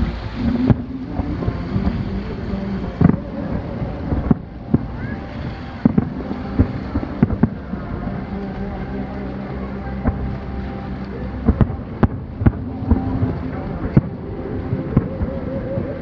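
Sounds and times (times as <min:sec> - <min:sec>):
wind rumble: 0:00.0 - 0:16.0.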